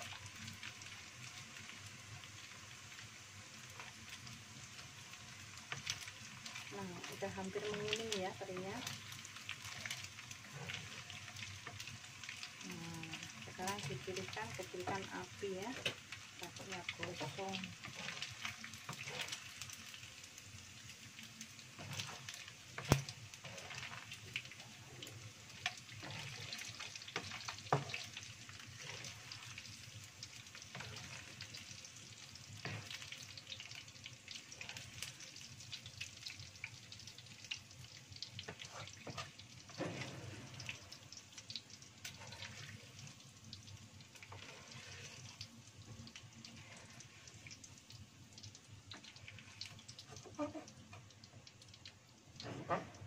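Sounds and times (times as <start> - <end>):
fish frying in hot oil: 0.0 - 53.0.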